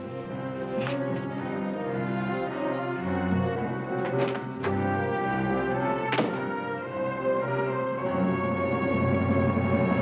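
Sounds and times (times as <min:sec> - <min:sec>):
dramatic orchestral music: 0:00.0 - 0:10.0.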